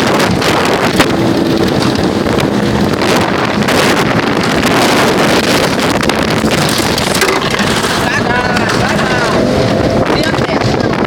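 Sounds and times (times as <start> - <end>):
motorboat engine running: 0.0 - 11.0
wind buffeting microphone: 0.0 - 11.0.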